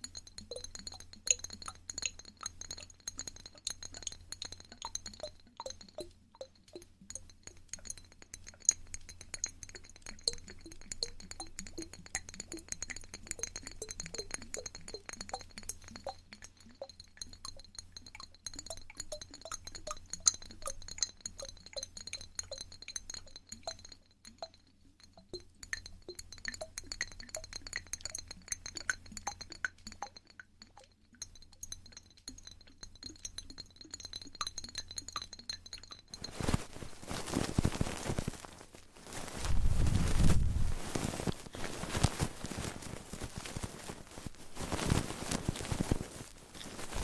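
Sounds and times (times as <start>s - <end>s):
small clicks and clinks: 0.0s - 39.5s.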